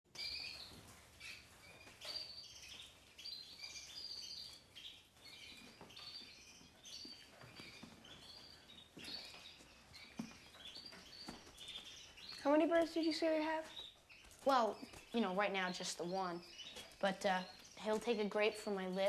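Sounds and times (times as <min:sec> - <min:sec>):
canaries chirping and trilling: 0:00.1 - 0:19.0.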